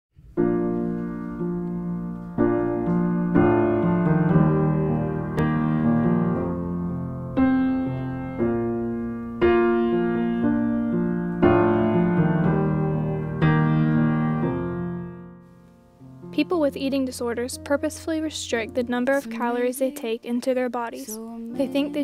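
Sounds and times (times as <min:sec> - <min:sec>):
piano chords: 0:00.2 - 0:22.0.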